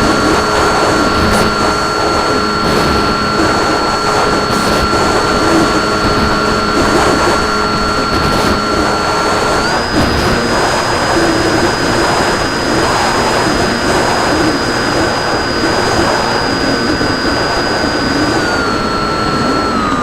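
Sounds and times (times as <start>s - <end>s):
model airplane motor whine: 0.0s - 20.0s.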